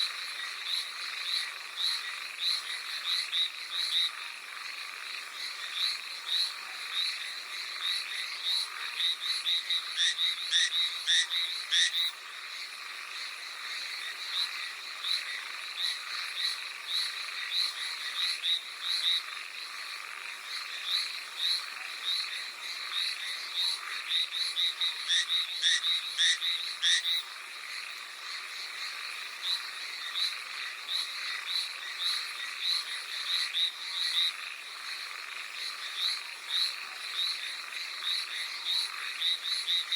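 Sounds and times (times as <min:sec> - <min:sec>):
tree frogs calling: 0:00.0 - 0:39.9.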